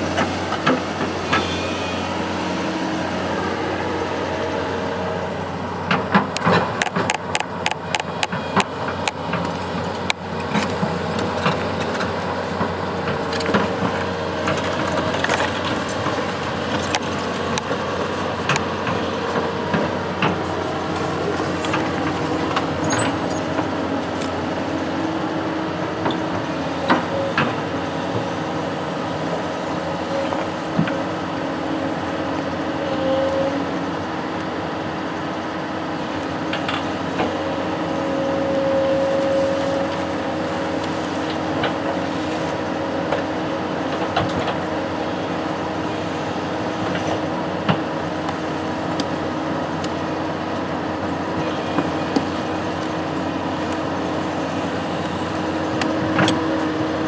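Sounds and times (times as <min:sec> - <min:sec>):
construction machine engine running: 0:00.0 - 0:57.0.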